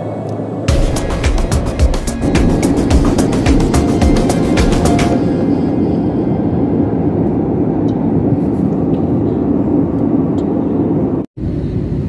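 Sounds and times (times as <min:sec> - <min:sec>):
airliner cabin engine rush: 0:00.0 - 0:12.0.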